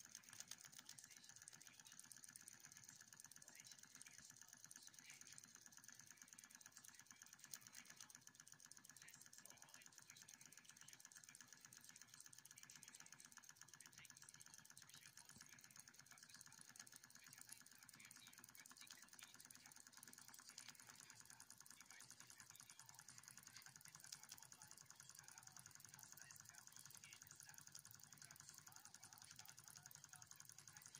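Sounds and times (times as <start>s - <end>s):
miniature steam engine ticking: 0.0s - 30.9s.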